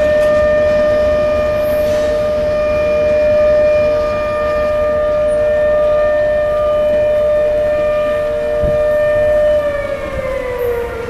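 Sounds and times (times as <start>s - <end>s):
warning siren wailing: 0.0s - 11.0s.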